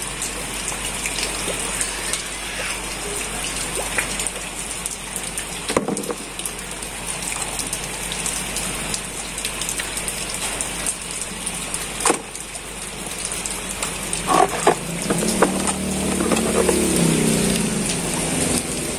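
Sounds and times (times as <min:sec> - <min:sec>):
rain on ground and plastic tub: 0:00.0 - 0:18.9.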